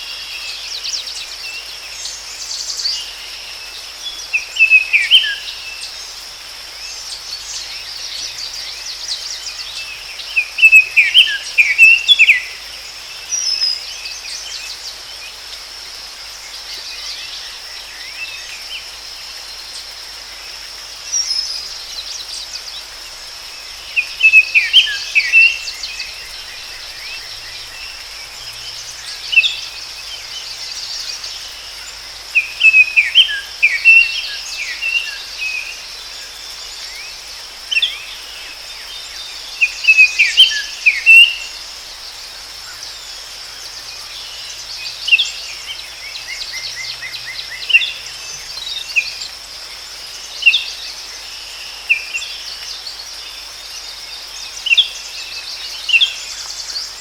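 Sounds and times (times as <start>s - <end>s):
bird song: 0.0s - 57.0s
high insect drone: 0.0s - 57.0s.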